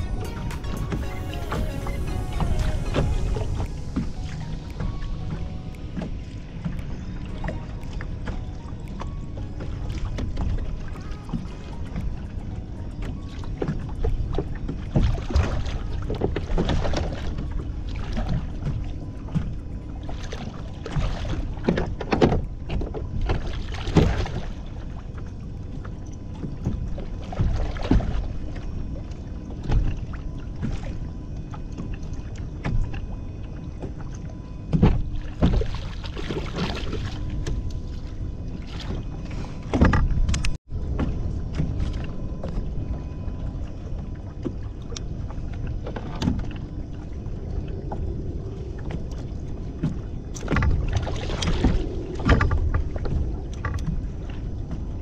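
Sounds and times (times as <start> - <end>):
steady low rumble: 0.0 - 55.0
water splashes and knocks: 0.0 - 55.0
waves lapping against kayak hull: 0.0 - 55.0.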